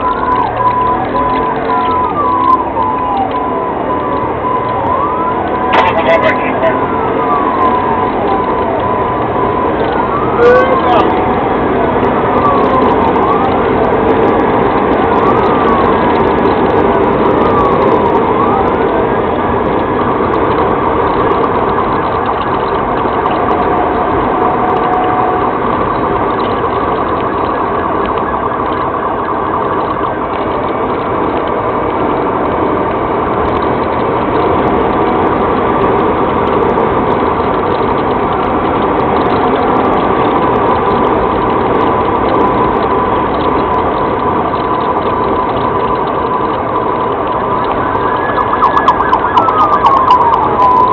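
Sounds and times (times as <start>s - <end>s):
car driving noise: 0.0s - 50.9s
police siren wailing: 0.0s - 50.9s.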